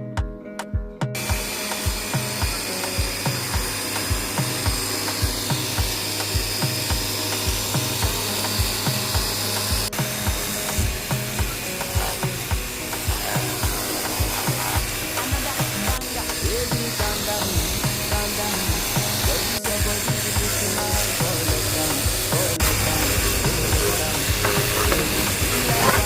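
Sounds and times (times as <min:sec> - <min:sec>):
music with thumping beat: 0:00.0 - 0:26.0.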